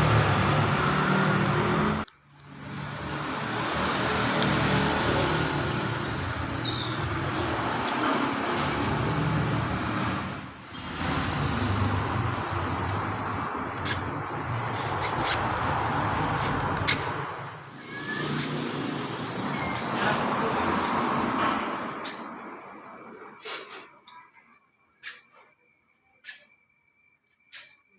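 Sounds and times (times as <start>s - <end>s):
vehicle engines running: 0.0s - 24.1s.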